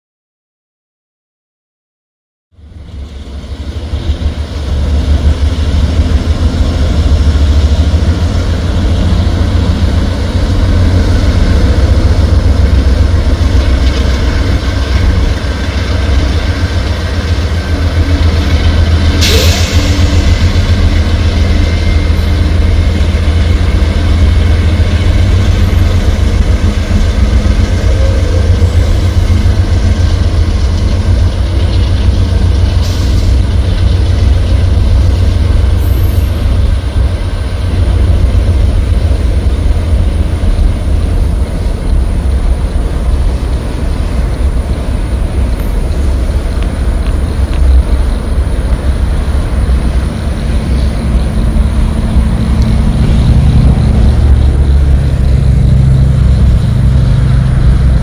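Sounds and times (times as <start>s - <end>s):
diesel locomotive drone: 2.5s - 58.0s
train wheels rumbling over bridge: 2.6s - 58.0s.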